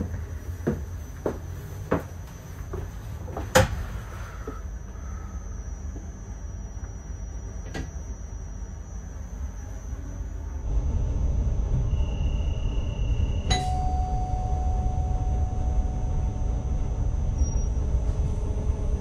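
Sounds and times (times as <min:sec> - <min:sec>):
electric train rumbling: 0:00.0 - 0:19.0
faint high whine: 0:01.5 - 0:19.0.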